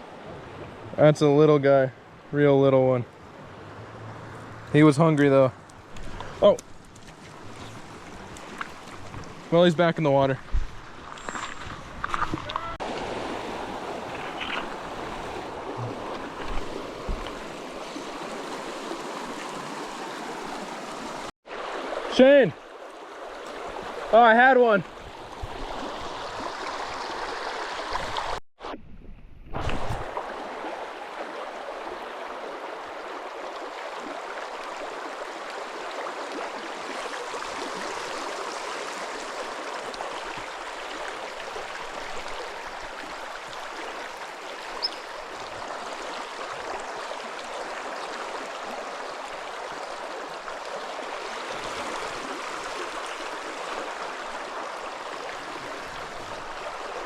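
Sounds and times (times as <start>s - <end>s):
stream water flowing: 0.0s - 28.4s, 29.5s - 57.0s.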